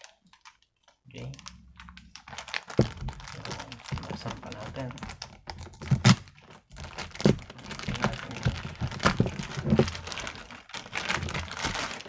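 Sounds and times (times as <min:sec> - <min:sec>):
plastic wrapping crinkling: 0:00.0 - 0:12.0
sharp knocks and cracks: 0:02.2 - 0:12.0.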